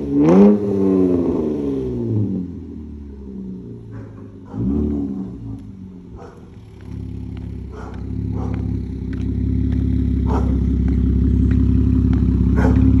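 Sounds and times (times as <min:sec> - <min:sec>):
car exhaust revving: 0:00.0 - 0:13.0.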